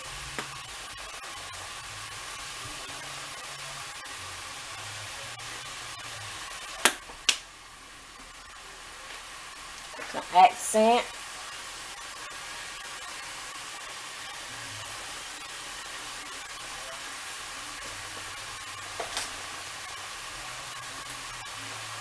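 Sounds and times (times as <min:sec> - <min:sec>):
meat sizzling in a skillet: 0:00.0 - 0:22.0.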